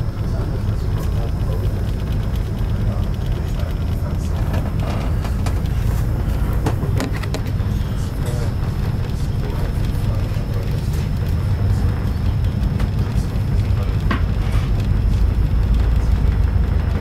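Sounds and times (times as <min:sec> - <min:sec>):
faint clicks and knocks: 0:00.0 - 0:17.0
train rumbling: 0:00.0 - 0:17.0.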